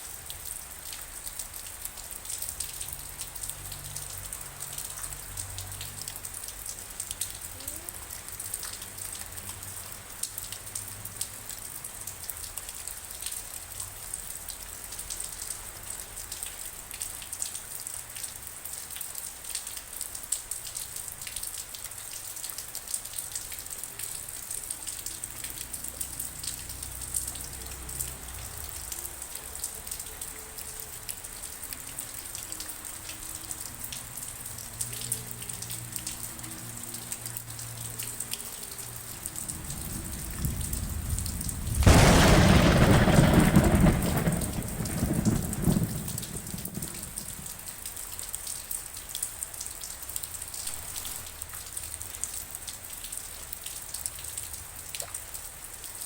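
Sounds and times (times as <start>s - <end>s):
raindrops ticking on a surface: 0.0s - 56.0s
steady rain: 0.0s - 56.0s.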